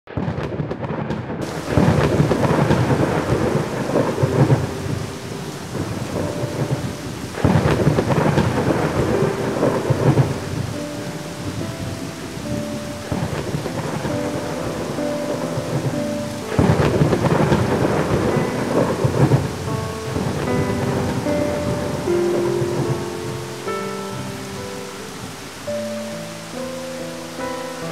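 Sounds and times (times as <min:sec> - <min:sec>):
thunder rolling: 0:00.1 - 0:26.8
steady rain: 0:00.1 - 0:27.9.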